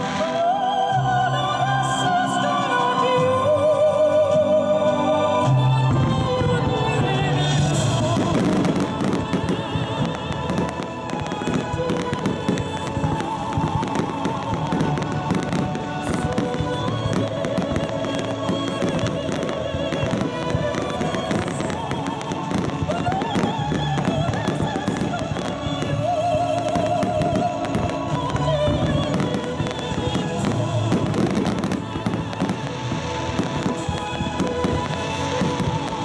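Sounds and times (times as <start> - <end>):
music playing: 0.0 - 36.0
fireworks crackling and banging: 5.8 - 36.0.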